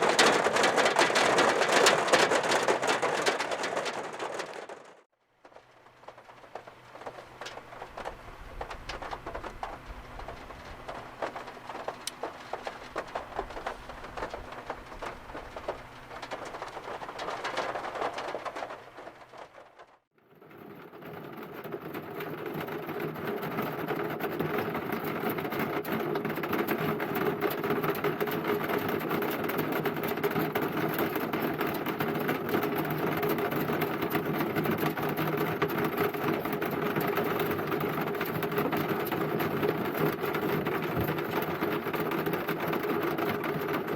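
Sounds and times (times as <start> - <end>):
rain pattering on a car: 0.0 - 20.1, 21.0 - 43.9.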